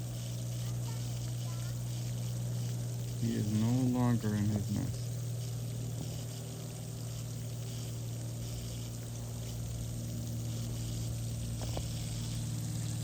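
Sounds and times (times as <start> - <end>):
low machine hum: 0.0 - 13.0
running water hiss: 0.0 - 13.0.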